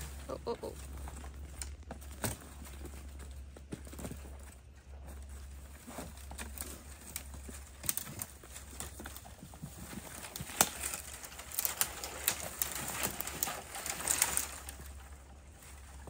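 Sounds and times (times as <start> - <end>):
twigs snapping and crackling: 0.0 - 4.5, 6.0 - 16.0.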